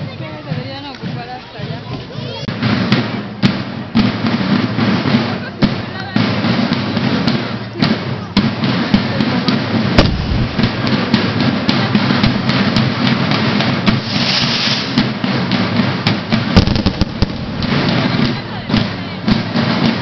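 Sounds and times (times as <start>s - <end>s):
drum beats: 0.0s - 20.0s
rattling snare drums: 0.0s - 20.0s.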